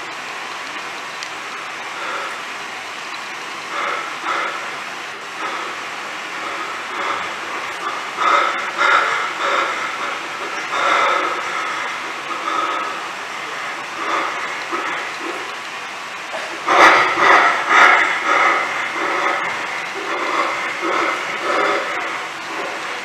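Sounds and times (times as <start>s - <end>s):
steady hissing noise: 0.0s - 23.0s.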